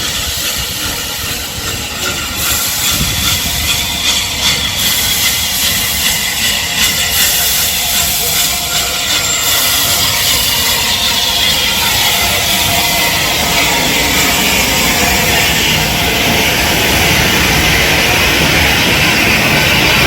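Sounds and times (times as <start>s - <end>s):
steam hissing: 0.0s - 20.0s
steam train rushing: 0.0s - 20.0s.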